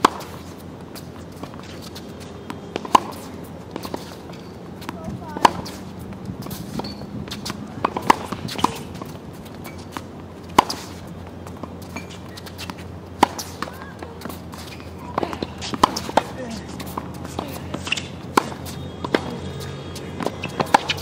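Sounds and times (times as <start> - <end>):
footsteps on hard court: 0.0 - 21.0
tennis ball struck by racket: 0.0 - 21.0
ball bouncing on hard court: 2.0 - 10.9, 11.5 - 21.0.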